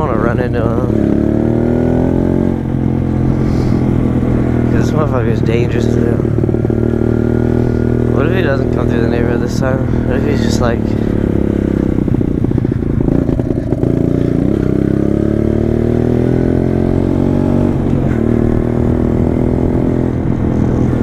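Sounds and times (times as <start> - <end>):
pit bike engine accelerating: 0.0 - 21.0.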